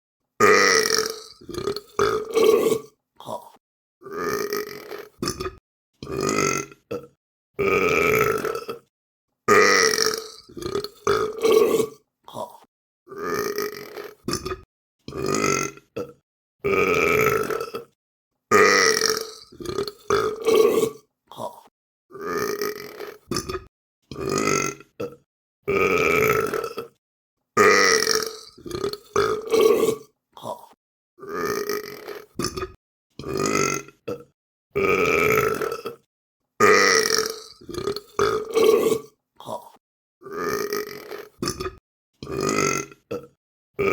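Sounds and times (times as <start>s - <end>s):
person burping: 0.4s - 8.9s, 9.5s - 27.0s, 27.6s - 43.9s.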